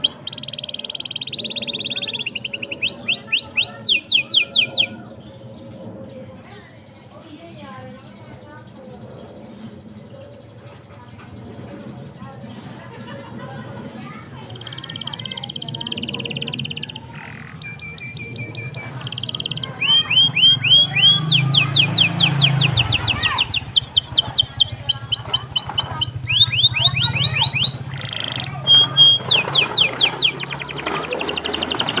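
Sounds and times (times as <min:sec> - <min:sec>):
canary singing trills: 0:00.0 - 0:06.1, 0:12.0 - 0:32.0.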